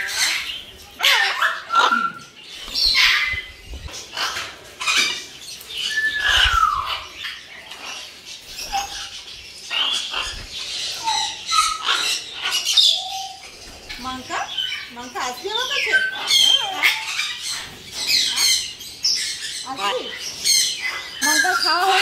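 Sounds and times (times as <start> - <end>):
parrots squawking: 0.0 - 22.0.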